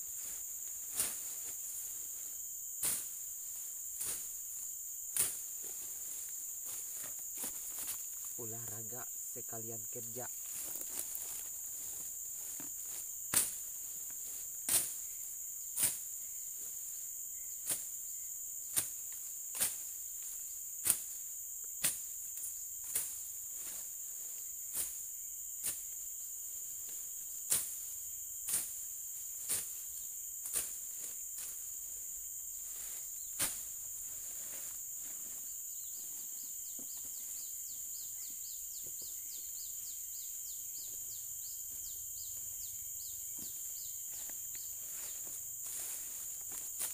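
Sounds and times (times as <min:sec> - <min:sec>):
fast chirping insect: 0:00.0 - 0:46.9
high insect drone: 0:00.0 - 0:46.9.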